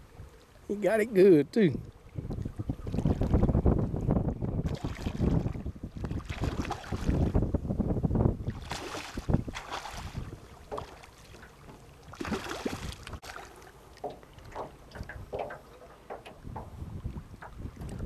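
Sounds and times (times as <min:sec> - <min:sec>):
water splashing around boat: 0:00.0 - 0:18.0
wind buffeting microphone: 0:01.7 - 0:13.3, 0:14.3 - 0:18.0.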